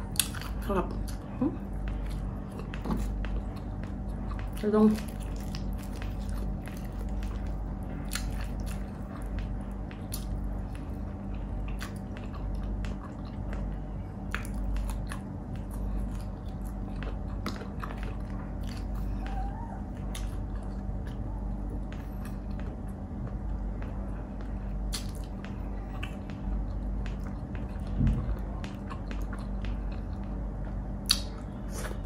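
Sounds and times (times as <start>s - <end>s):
faint steady hum: 0.0s - 32.0s
person chewing and biting: 0.0s - 32.0s.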